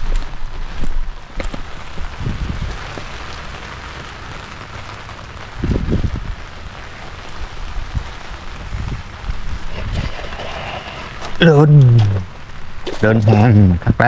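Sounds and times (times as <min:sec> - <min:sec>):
rain hissing on water: 0:00.0 - 0:14.0.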